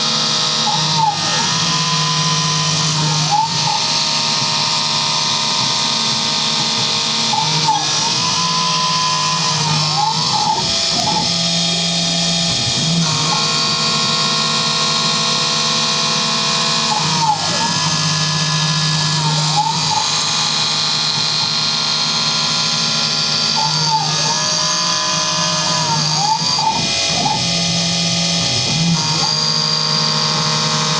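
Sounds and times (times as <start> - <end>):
milling spindle cutting plastic: 0.0 - 30.9
motors whining up and down: 0.0 - 30.9.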